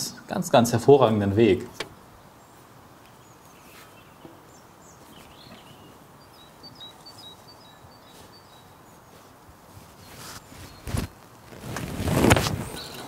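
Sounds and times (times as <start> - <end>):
faint background hiss: 0.0 - 13.0
small birds chirping: 0.0 - 13.0.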